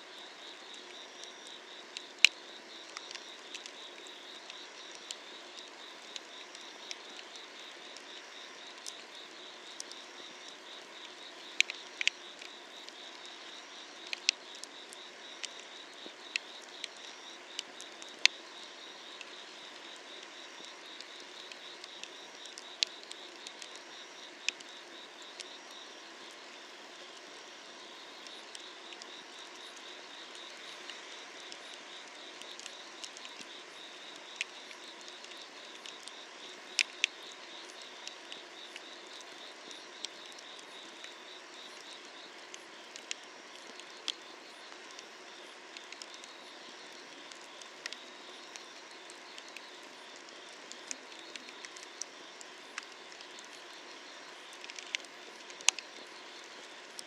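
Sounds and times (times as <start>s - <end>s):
insects chirping: 0.0s - 57.0s
firewood crackling and popping: 0.6s - 26.4s, 30.4s - 57.0s.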